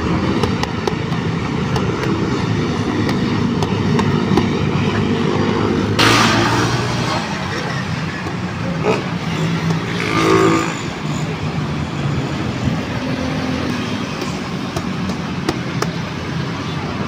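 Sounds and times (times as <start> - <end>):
highway traffic: 0.0 - 17.0
vehicle passing: 1.3 - 17.0.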